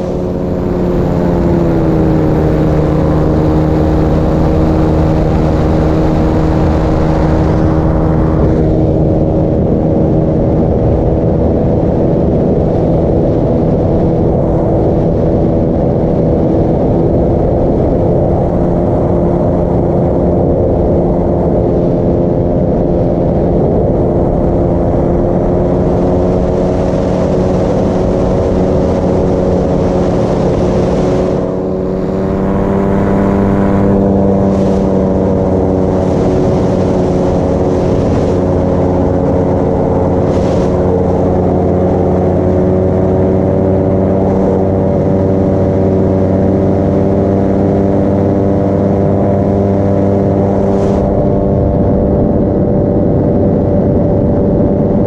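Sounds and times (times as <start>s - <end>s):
paramotor engine running: 0.0s - 55.0s.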